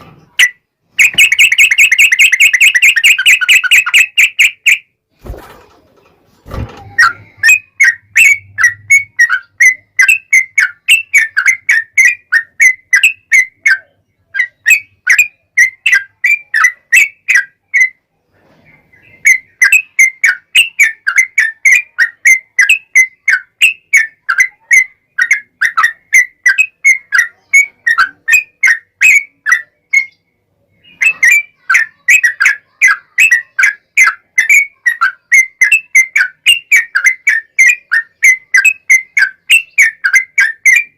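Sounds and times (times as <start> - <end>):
bulbul chattering song: 0.0 - 5.0, 6.9 - 18.1, 18.9 - 40.9.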